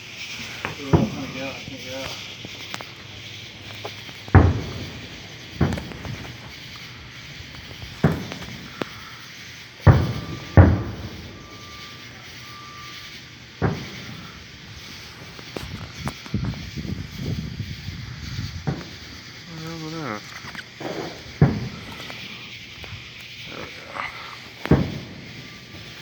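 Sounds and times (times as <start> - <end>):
distant fireworks booming: 0.0 - 26.0.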